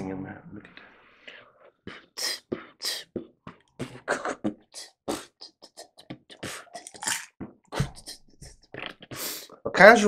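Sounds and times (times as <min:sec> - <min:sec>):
percussive mouth sounds: 0:00.7 - 0:09.7.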